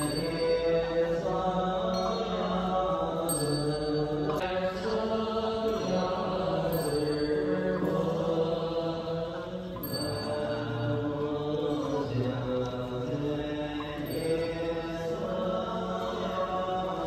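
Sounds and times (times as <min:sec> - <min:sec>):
slow melodic chanting: 0:00.0 - 0:17.0.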